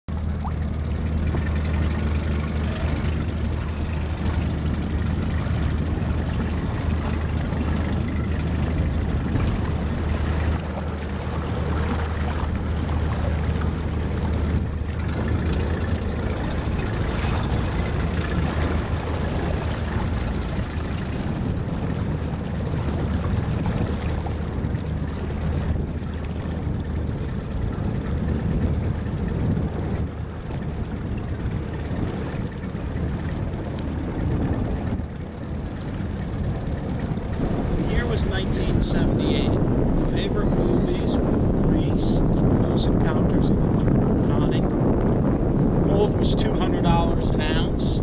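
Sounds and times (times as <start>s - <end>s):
motorboat engine droning: 0.0s - 48.0s.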